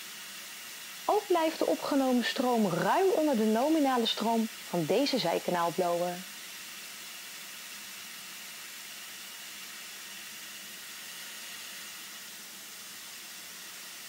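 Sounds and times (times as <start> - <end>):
blower air hiss: 0.0 - 14.0.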